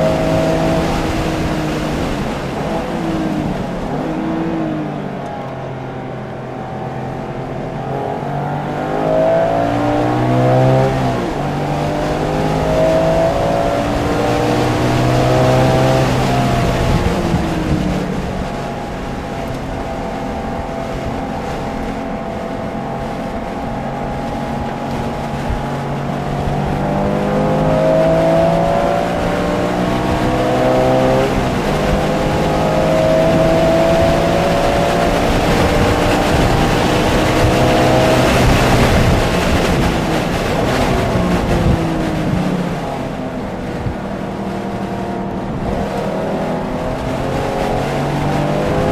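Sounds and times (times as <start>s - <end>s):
car engine revving through gears: 0.0s - 48.9s.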